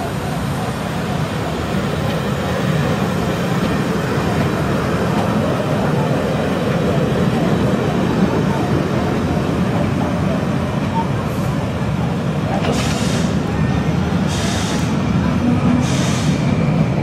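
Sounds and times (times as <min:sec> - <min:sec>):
steam train rushing rumble: 0:00.0 - 0:17.0.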